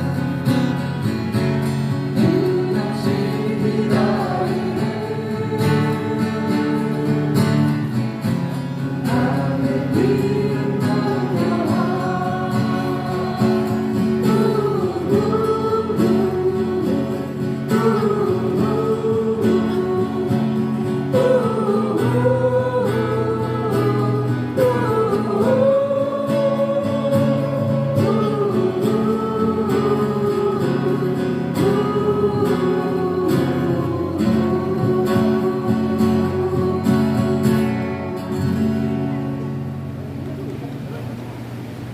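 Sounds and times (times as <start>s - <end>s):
strummed acoustic guitars: 0.0s - 41.9s
person singing: 2.1s - 8.0s, 9.0s - 38.8s.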